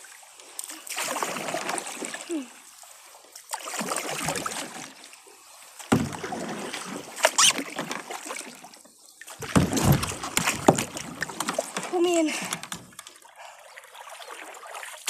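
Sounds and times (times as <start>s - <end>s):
paddle splashing through water: 0.0s - 15.0s.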